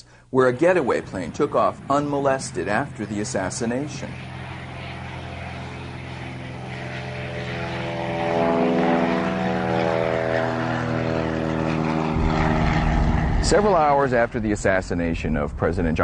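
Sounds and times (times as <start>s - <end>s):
propeller airplane engine droning: 0.0s - 16.0s.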